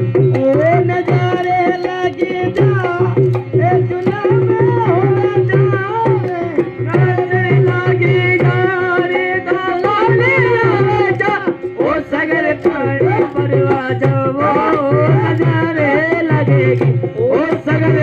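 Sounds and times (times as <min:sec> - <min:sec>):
hand drum rhythm: 0:00.0 - 0:18.0
person singing: 0:00.3 - 0:18.0.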